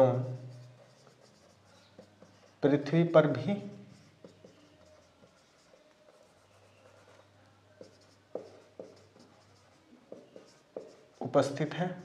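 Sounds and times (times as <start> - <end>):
marker squeaking on whiteboard: 0.1 - 2.7, 3.9 - 12.0.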